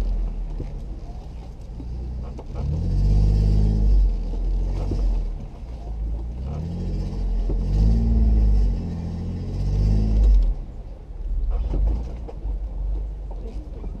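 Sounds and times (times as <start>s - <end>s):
engine revving over deep rumble: 0.0s - 14.0s.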